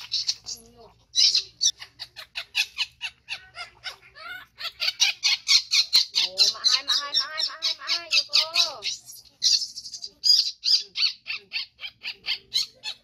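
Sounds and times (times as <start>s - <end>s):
baby macaque screaming: 0.0s - 13.0s.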